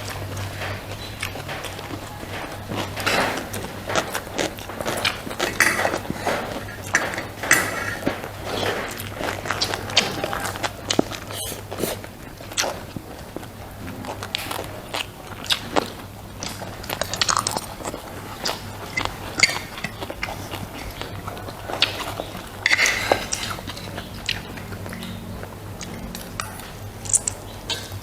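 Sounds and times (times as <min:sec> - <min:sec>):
person chewing crunchy food: 0:00.0 - 0:28.0
mouth clicks: 0:02.7 - 0:28.0.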